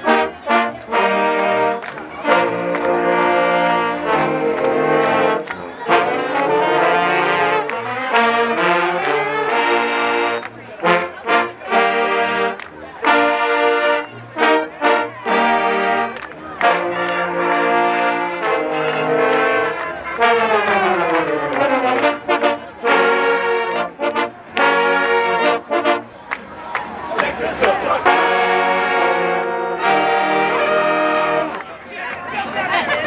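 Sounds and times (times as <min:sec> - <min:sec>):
brass band music: 0:00.0 - 0:33.0.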